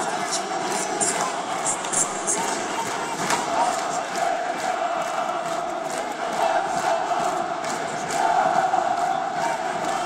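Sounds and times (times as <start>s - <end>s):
stadium crowd chanting and singing: 0.0s - 10.0s.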